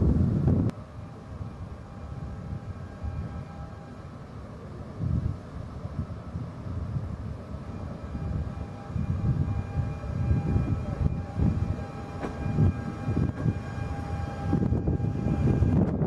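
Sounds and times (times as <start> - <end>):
low uneven train rumble: 0.0 - 16.0
thin steady whine: 0.0 - 16.0.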